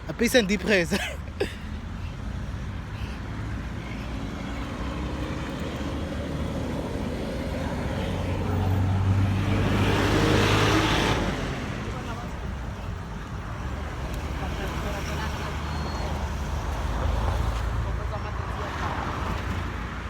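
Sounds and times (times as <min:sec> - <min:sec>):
road traffic: 0:00.0 - 0:20.0
vehicle approaching: 0:01.6 - 0:20.0.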